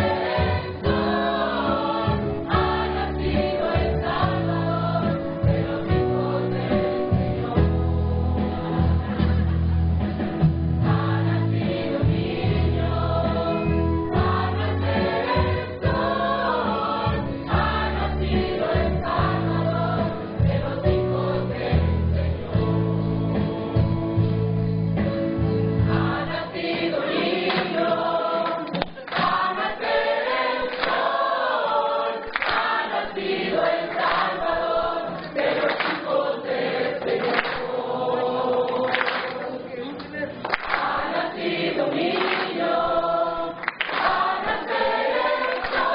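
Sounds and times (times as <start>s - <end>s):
choir singing: 0.0s - 9.5s, 10.8s - 23.9s, 25.8s - 45.9s.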